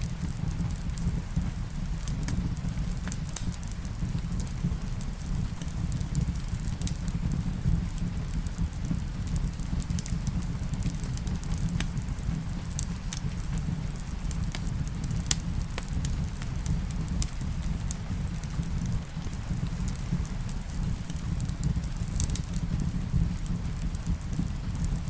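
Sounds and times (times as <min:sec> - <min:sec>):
soft rain: 0:00.0 - 0:25.0
wood fire crackling: 0:00.0 - 0:25.0.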